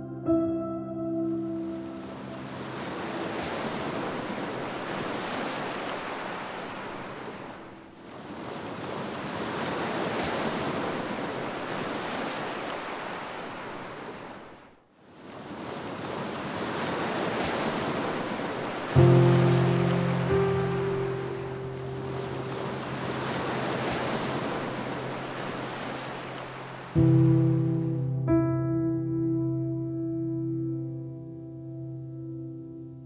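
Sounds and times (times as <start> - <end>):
ocean surf washing: 0.0 - 29.8.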